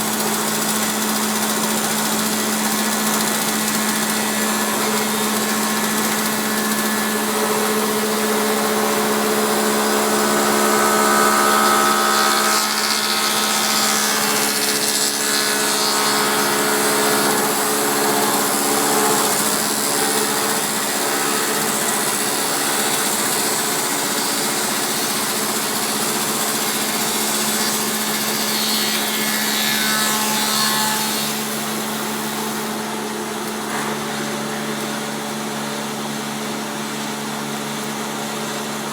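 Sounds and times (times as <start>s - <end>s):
wood-cutting noise: 0.0s - 38.9s.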